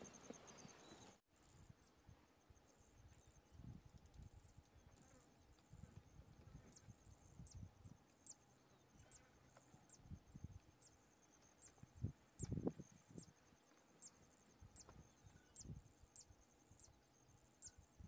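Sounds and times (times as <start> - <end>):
insects pulsing trill: 0.0 - 18.0.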